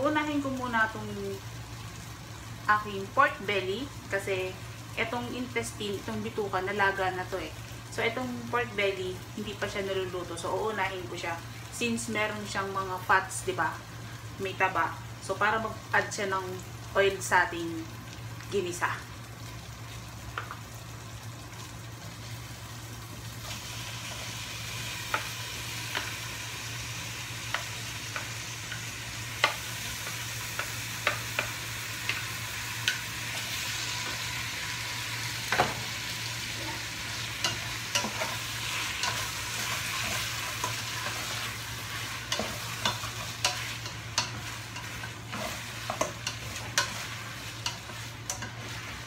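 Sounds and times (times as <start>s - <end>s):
pork sizzling in a pot: 0.0s - 49.0s.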